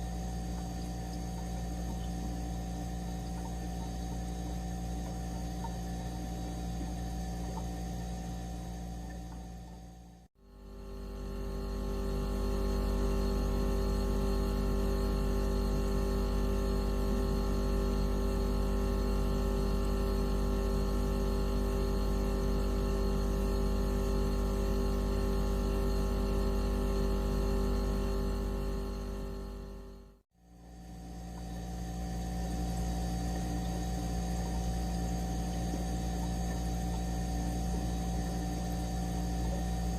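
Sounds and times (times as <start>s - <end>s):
electronic hum of stacked tones: 0.0s - 39.9s.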